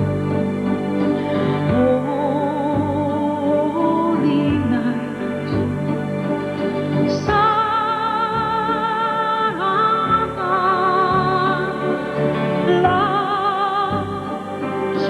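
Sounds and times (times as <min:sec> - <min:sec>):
christmas song with singing voice: 0:00.0 - 0:15.0.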